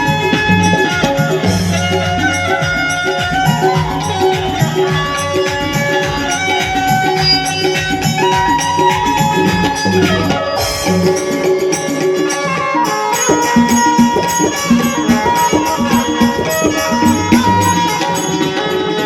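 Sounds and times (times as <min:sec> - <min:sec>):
banjo melody: 0:00.0 - 0:19.0
steady percussion rhythm: 0:00.0 - 0:19.0.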